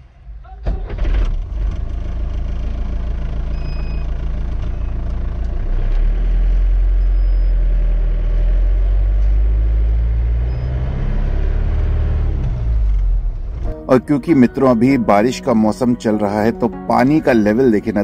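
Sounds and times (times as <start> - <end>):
van engine running: 0.0 - 18.0.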